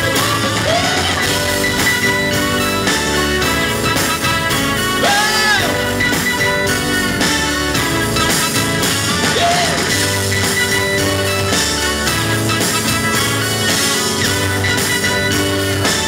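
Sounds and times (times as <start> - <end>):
pop band playing live: 0.0 - 16.0
voice holding high note: 0.0 - 16.0.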